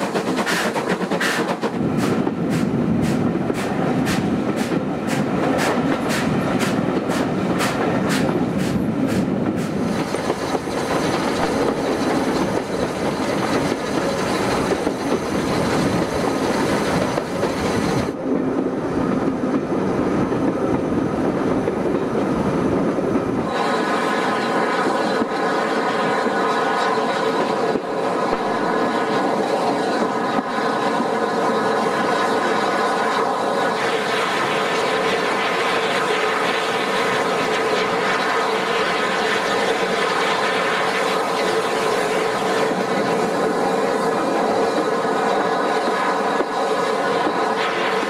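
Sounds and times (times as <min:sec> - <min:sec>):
steam locomotive chuffing: 0:00.0 - 0:48.0
wheels rumbling on rail: 0:00.0 - 0:48.0.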